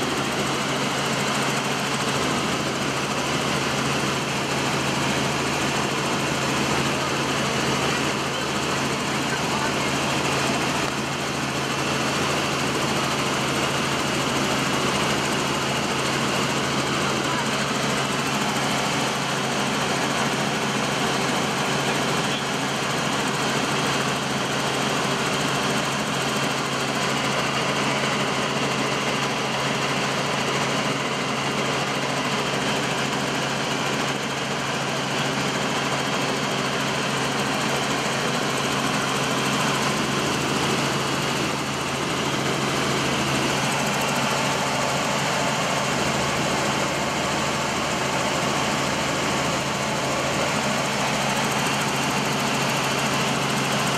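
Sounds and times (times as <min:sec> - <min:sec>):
helicopter engine and rotors droning: 0:00.0 - 0:53.9.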